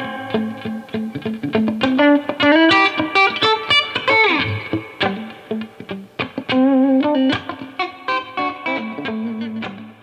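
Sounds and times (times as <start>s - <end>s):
electric guitar playing: 0.0s - 10.0s.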